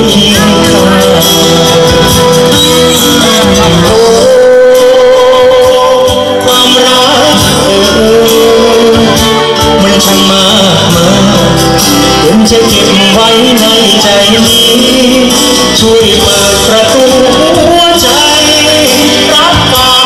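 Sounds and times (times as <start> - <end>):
loud amplified band music: 0.0 - 20.0
man singing into microphone: 0.0 - 20.0.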